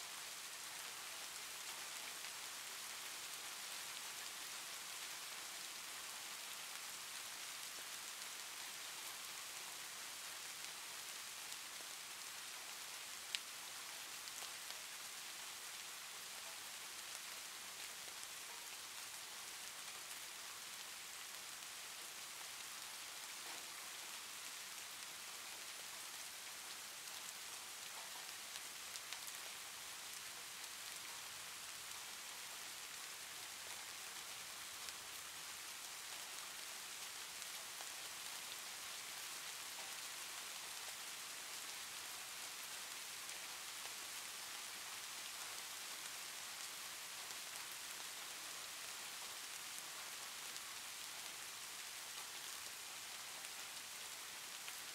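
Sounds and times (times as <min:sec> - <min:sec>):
faint rain-like hiss: 0:00.0 - 0:54.9.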